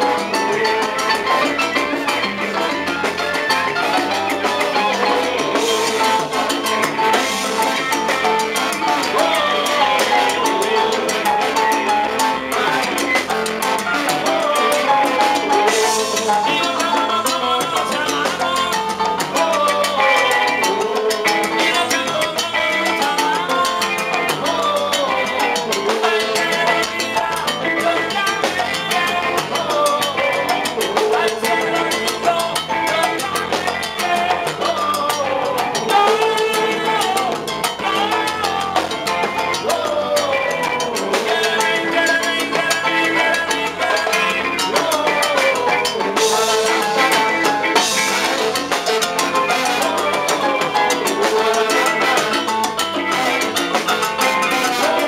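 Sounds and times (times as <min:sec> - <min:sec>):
congas: 0:00.0 - 0:55.0
salsa band playing: 0:00.0 - 0:55.0
trombone: 0:00.0 - 0:55.0.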